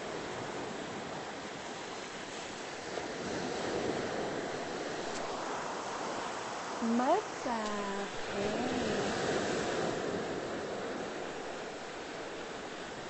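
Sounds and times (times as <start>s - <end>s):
ocean surf washing up: 0.0s - 13.0s.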